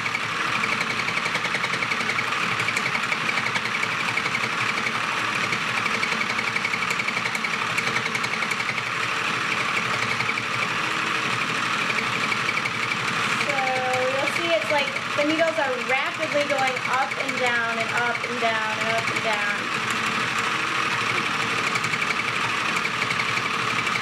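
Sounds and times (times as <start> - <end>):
toy machine fast-pulsing buzz: 0.0 - 24.0.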